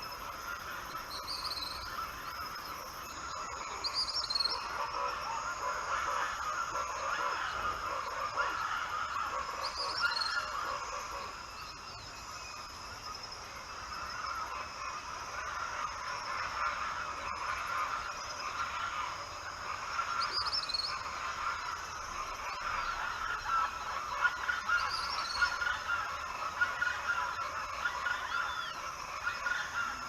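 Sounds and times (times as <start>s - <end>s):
wetland birds chattering chorus: 0.0s - 30.0s.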